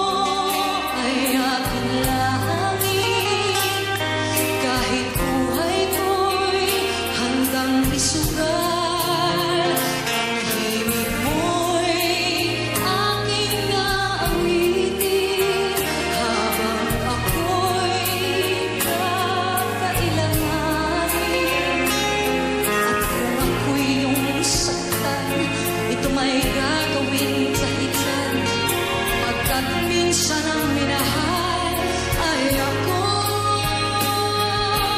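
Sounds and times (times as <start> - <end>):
band accompaniment: 0.0 - 34.9
sustained bass notes: 0.0 - 34.9
woman singing with vibrato: 0.0 - 34.9.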